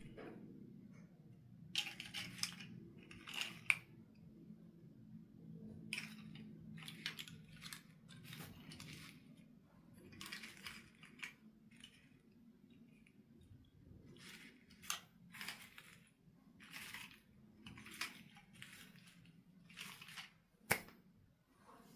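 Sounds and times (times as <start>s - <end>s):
small objects rustling and clicking: 1.7s - 4.0s, 5.7s - 21.0s.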